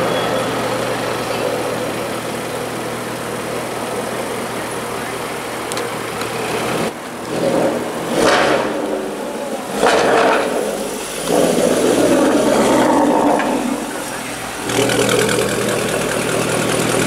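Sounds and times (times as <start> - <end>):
car engine revving: 0.7 - 17.0.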